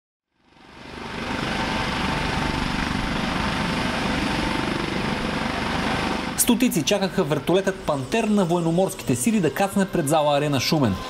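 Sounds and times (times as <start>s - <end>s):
helicopter turbine whine: 0.3s - 11.0s
helicopter rotor beat: 0.4s - 11.0s.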